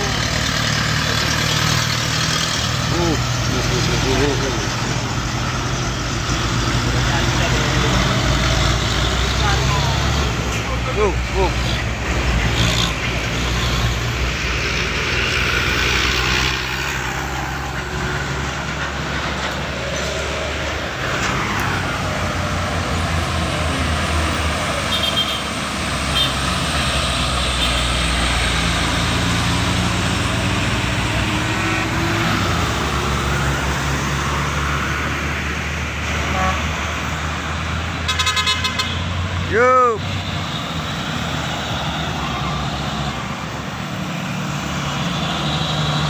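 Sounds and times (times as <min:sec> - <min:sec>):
diesel trucks passing: 0:00.0 - 0:46.0.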